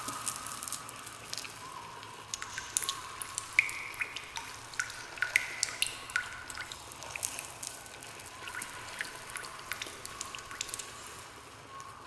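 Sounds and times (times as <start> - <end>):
water drops plinking: 0.0 - 11.9
faint steady hiss: 0.0 - 12.0.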